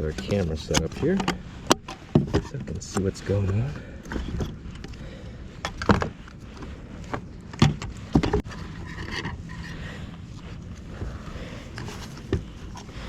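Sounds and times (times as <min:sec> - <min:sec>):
gear knocking and clunking: 0:00.0 - 0:13.0
rustling and shuffling: 0:00.0 - 0:13.0.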